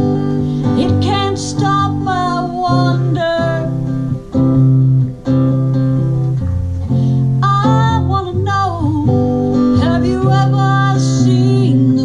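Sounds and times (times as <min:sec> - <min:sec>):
acoustic guitar strumming: 0:00.0 - 0:12.0
sliding guitar melody: 0:00.0 - 0:12.0.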